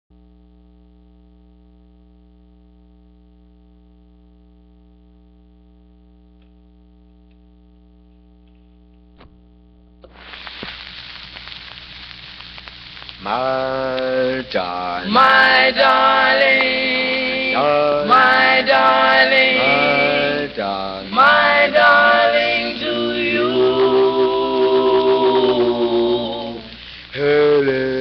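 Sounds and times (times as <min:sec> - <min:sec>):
electrical mains hum: 0:00.1 - 0:28.0
record surface crackle: 0:00.2 - 0:28.0.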